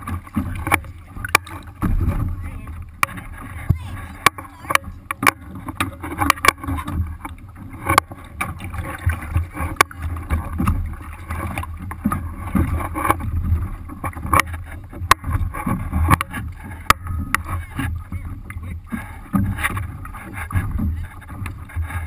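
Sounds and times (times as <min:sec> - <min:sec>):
knocks and taps on hull: 0:00.0 - 0:22.0
water lapping against hull: 0:00.0 - 0:22.0.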